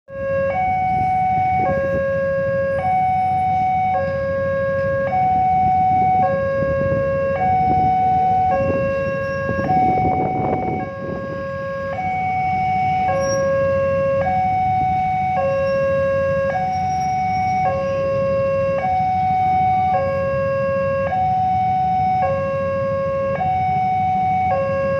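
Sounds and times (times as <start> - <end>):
level crossing two-tone alarm: 0.1 - 24.9
motorcycle and road traffic: 0.1 - 24.9.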